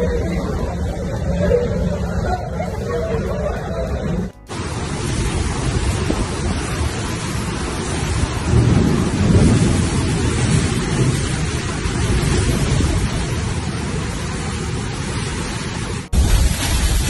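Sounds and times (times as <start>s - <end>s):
storm wind and rain: 0.0s - 17.0s
wind rumble on microphone: 0.0s - 17.0s.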